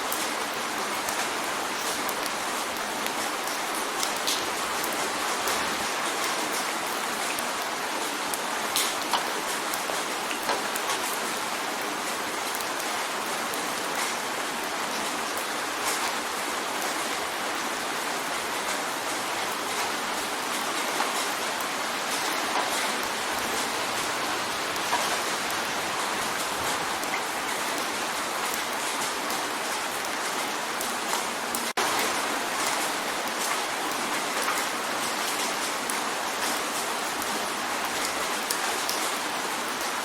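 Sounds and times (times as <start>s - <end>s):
rain drumming on a window: 0.0s - 40.0s.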